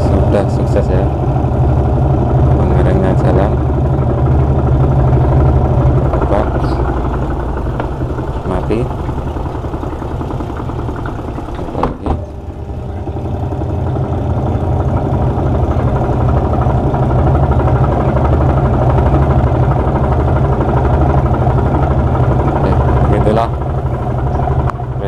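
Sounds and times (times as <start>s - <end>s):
washing machine drum spinning: 0.0s - 25.0s.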